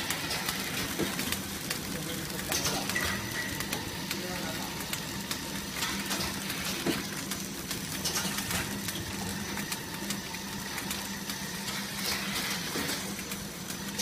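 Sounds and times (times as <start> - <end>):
packing machine whirring and humming: 0.0 - 14.0.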